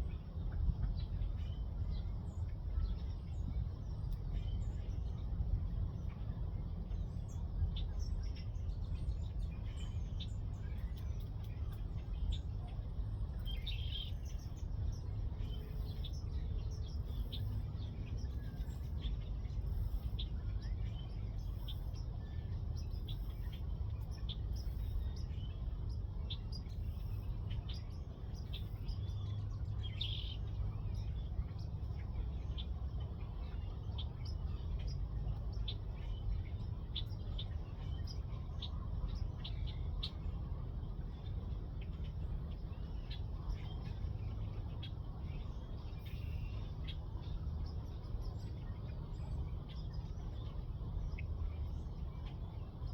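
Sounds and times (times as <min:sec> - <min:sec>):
small birds chirping: 0:00.0 - 0:52.9
steady low rumble: 0:00.0 - 0:52.9.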